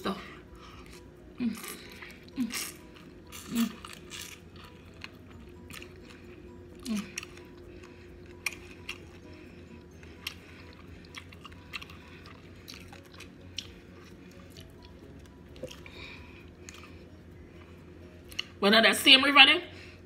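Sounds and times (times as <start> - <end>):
close-up chewing: 0.6 - 18.5.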